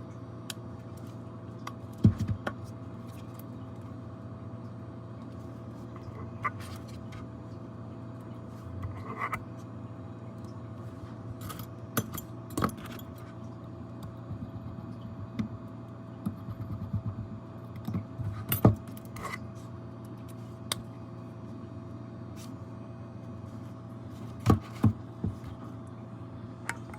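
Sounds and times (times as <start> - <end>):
steady electrical hum: 0.0 - 26.9.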